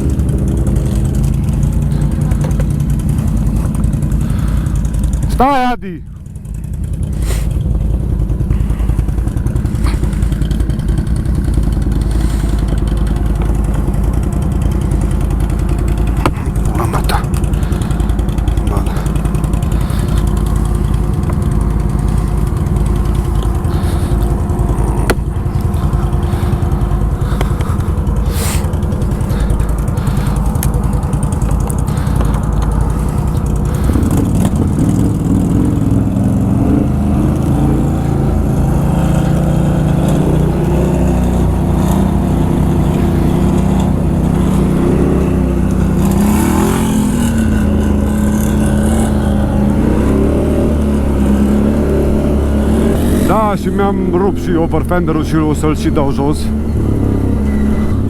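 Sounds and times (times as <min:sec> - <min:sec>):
atv engine idling: 0:00.0 - 0:58.0
engine revving: 0:00.0 - 0:58.0.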